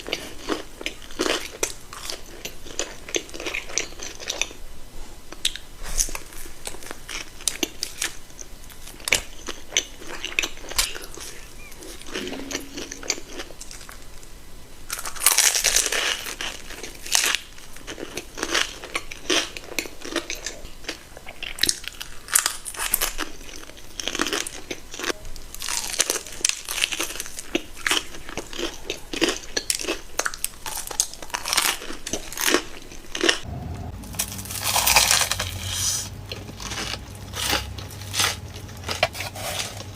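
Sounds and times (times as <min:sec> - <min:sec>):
crunching bites and chewing: 0:00.0 - 0:04.6, 0:05.3 - 0:14.2, 0:14.9 - 0:39.9.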